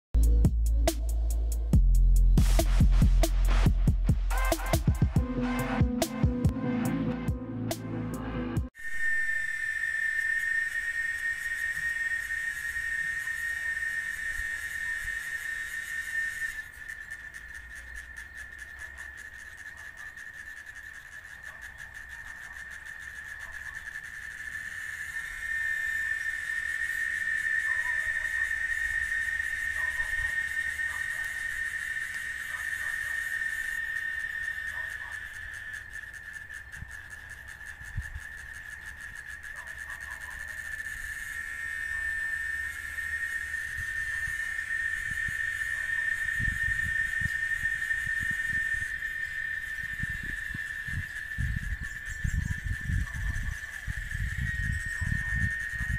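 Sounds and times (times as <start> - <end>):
cicada drone: 0.2 - 6.9, 8.7 - 55.9.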